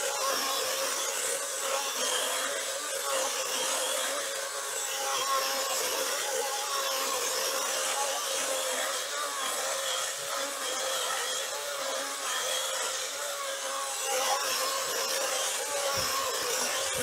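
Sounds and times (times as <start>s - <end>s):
electric chainsaw cutting log: 0.0s - 17.0s.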